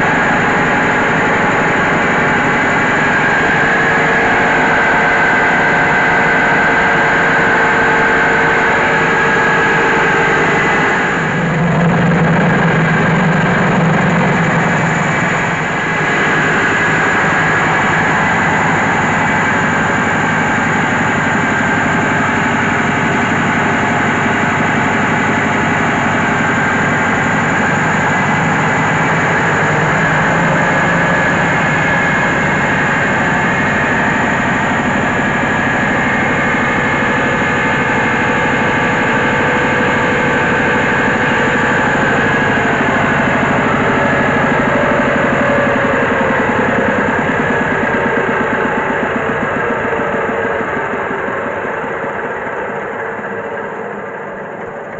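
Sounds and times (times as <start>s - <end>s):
diesel engine droning: 0.0s - 54.9s.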